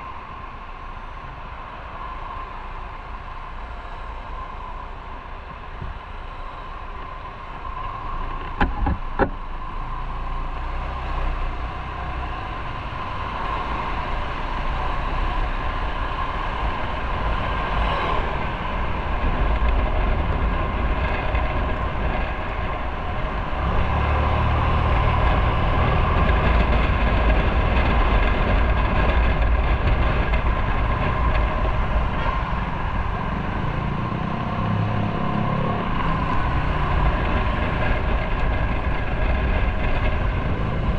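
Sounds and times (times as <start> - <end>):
motorcycle engine drone: 0.0 - 40.9.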